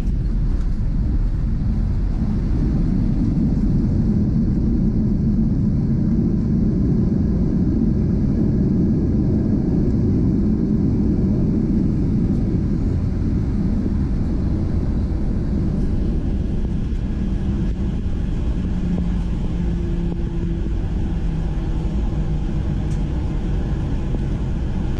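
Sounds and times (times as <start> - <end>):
airliner landing rumble: 0.0 - 24.9.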